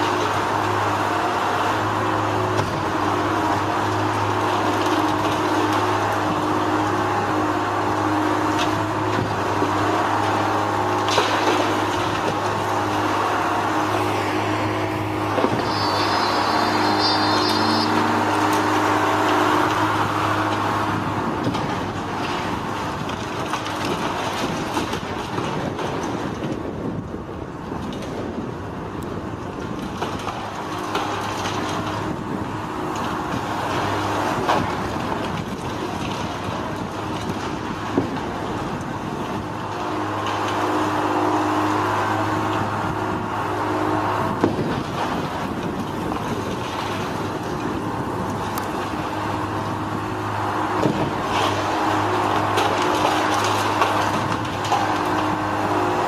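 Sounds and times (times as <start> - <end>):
demolition machinery engine drone: 0.0 - 56.0
rough rumble: 0.0 - 56.0.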